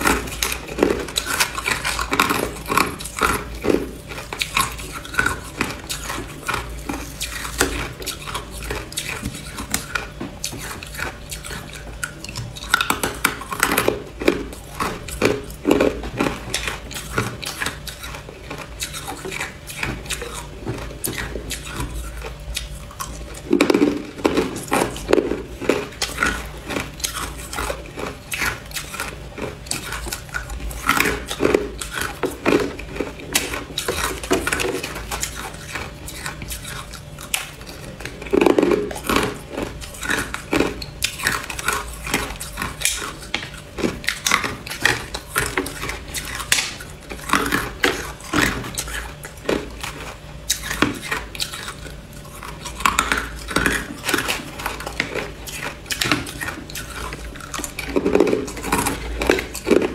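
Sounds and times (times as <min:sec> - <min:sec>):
ice being chewed: 0:00.0 - 0:59.9.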